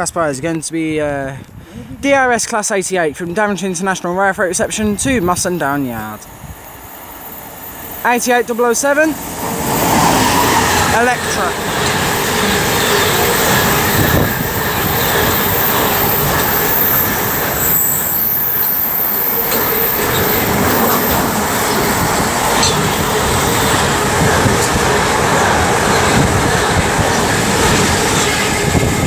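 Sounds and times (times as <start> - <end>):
train wheels rumbling on rail: 2.2 - 29.0
thin high whine: 4.6 - 29.0.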